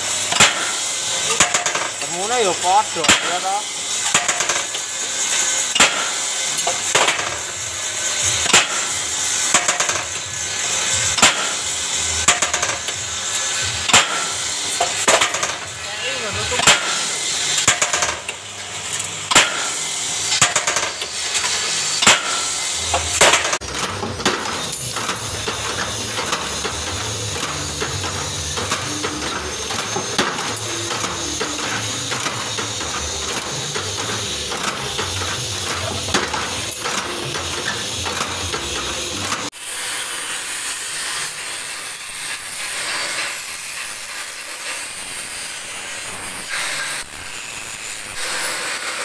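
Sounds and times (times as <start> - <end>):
bending machine clacking: 0.0 - 49.0
machine whirring with light ticking: 0.0 - 49.0.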